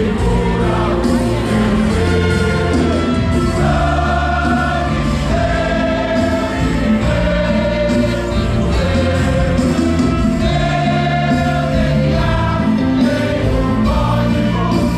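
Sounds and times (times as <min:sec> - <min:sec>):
choir singing gospel music: 0:00.0 - 0:14.9.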